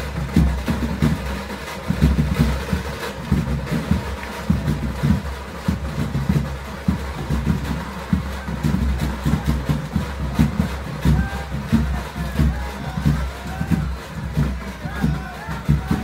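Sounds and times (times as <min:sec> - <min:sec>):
street crowd noise: 0:00.0 - 0:16.0.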